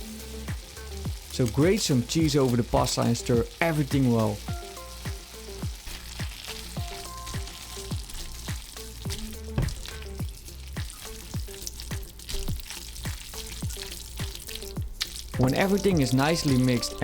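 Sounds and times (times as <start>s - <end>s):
background music with steady beat: 0.0s - 17.0s
pasta sizzling in a frying pan: 0.0s - 17.0s.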